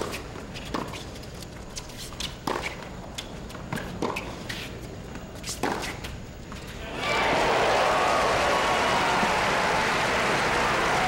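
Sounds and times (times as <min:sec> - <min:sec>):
steady low background noise: 0:00.0 - 0:11.0.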